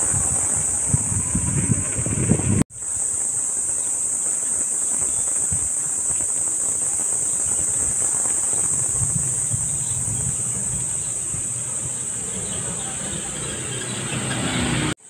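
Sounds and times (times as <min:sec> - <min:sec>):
wind rumble on microphone: 0:00.0 - 0:14.9
high-pitched insect chorus: 0:00.0 - 0:15.0.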